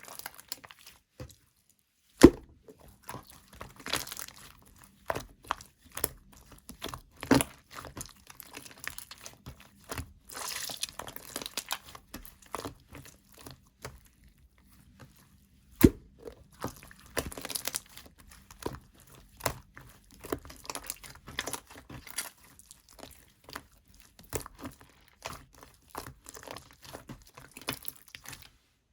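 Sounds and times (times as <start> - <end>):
crumbly material crunching by hand: 2.2 - 15.0, 15.8 - 28.6.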